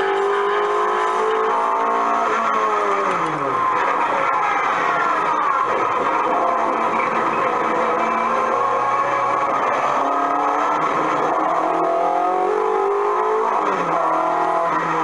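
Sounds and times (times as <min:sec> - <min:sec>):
rally car engine revving over speaker: 0:00.0 - 0:15.0.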